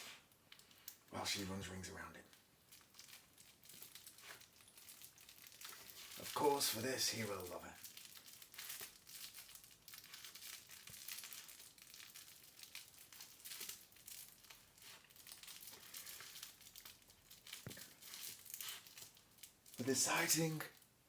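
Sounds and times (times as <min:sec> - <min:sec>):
fabric rustling and crinkling: 0:02.3 - 0:21.0.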